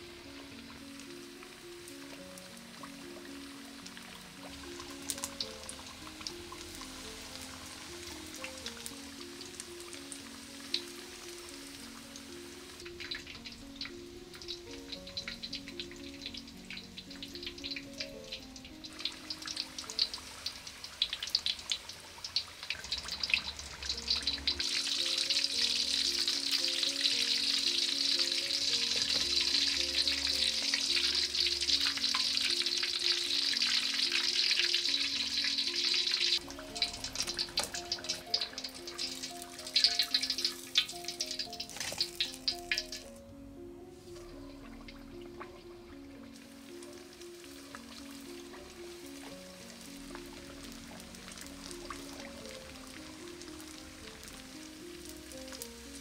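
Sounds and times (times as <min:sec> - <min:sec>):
food sizzling and crackling in oil: 0:00.0 - 0:43.2, 0:44.0 - 0:56.0.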